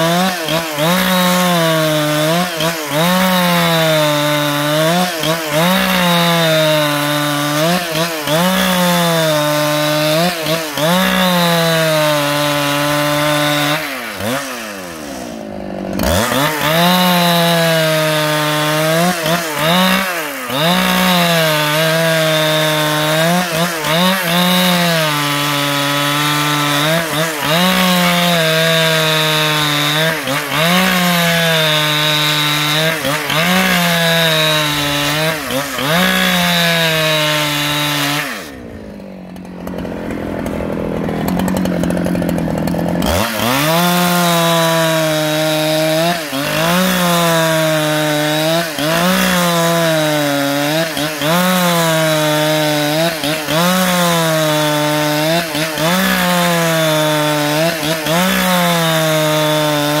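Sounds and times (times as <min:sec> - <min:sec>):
chainsaw cutting timber: 0:00.0 - 1:00.0.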